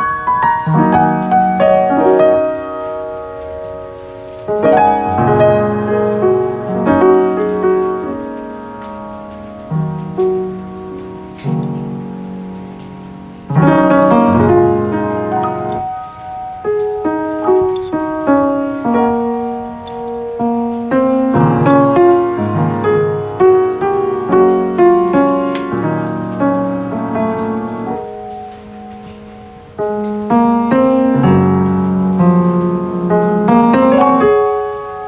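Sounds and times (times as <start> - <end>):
solo piano playing: 0.0 - 35.0.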